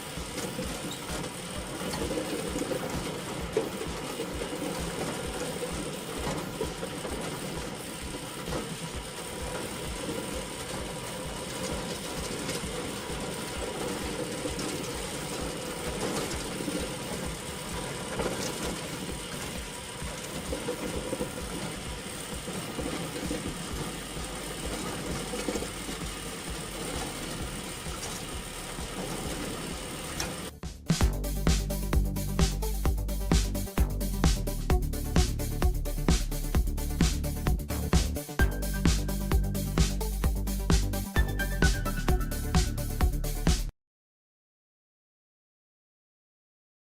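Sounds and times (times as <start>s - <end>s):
harvesting machine engine rattling: 0.0s - 43.5s.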